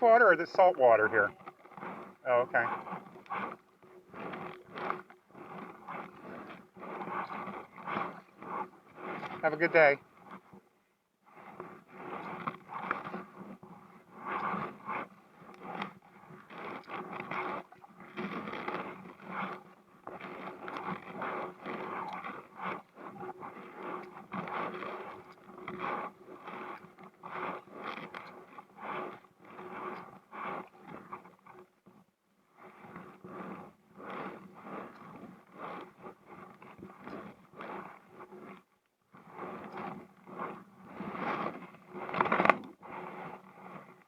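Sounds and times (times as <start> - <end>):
paddle blades pulling through water: 0.0 - 44.0
paddle shaft scraping hull: 0.0 - 44.0.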